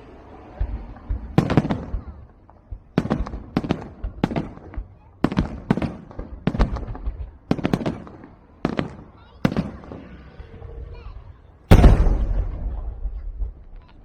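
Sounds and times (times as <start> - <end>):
fireworks banging: 0.0 - 10.7, 11.7 - 14.0.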